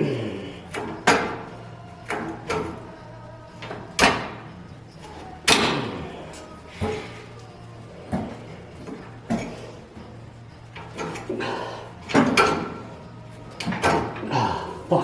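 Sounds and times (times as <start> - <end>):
metal spring clanking: 0.0 - 15.0.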